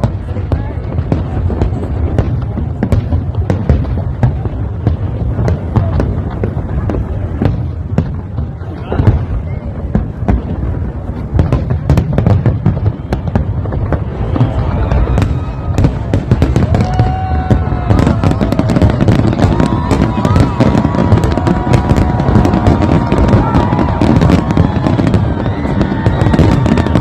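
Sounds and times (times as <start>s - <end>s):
fireworks crackling and banging: 0.0s - 27.0s
high whistling fireworks: 0.0s - 27.0s.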